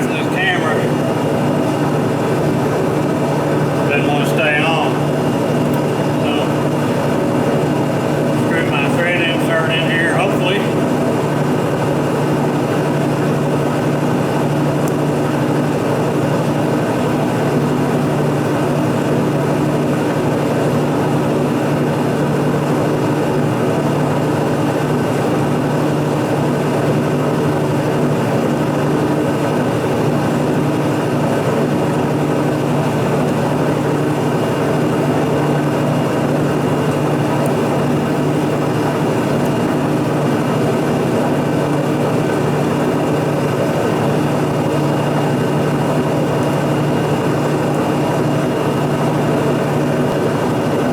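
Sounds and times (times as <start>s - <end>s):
shop machine droning: 0.0s - 50.9s.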